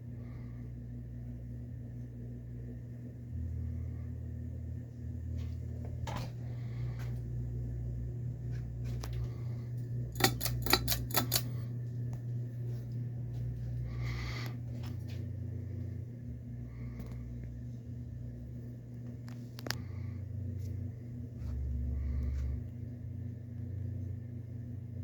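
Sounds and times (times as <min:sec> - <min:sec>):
ceiling fan motor hum: 0:00.0 - 0:25.0.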